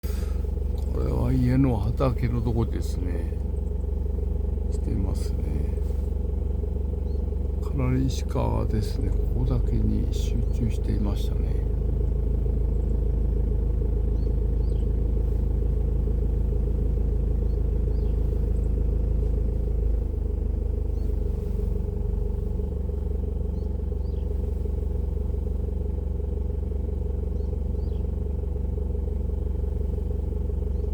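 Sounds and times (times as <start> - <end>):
steady low drone: 0.0 - 30.9.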